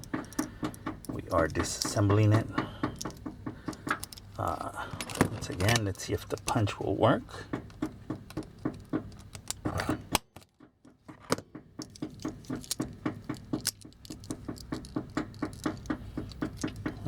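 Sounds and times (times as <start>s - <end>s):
pin punch tapping metal: 0.0s - 4.4s, 7.4s - 17.0s.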